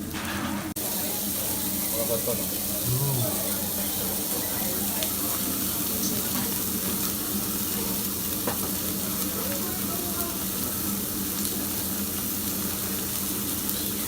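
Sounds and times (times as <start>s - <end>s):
meat sizzling on a grill: 0.8s - 14.0s.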